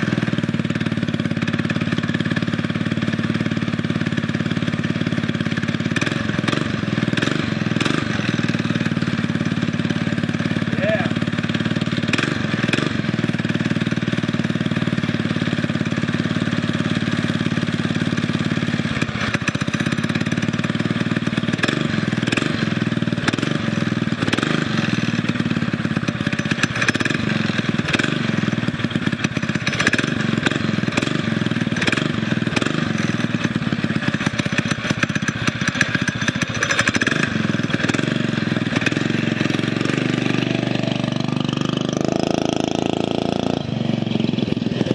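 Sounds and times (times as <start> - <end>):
mini bike engine running: 0.0 - 44.9.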